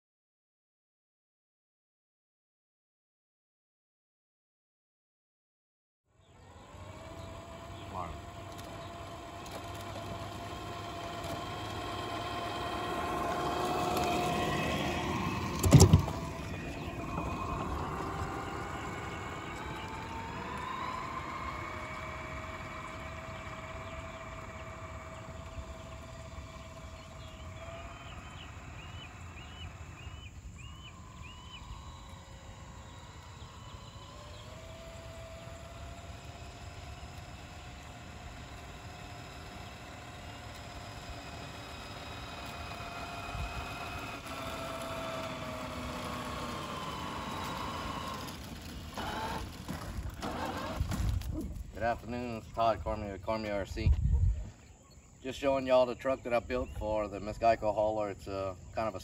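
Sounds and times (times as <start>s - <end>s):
toy truck electric motor whine: 6.1s - 59.0s.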